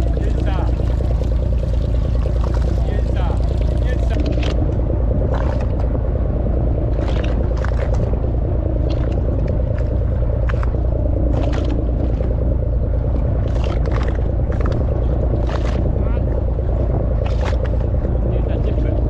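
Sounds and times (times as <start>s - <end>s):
boat engine rumbling: 0.0s - 19.0s
water slapping against hull: 0.0s - 19.0s.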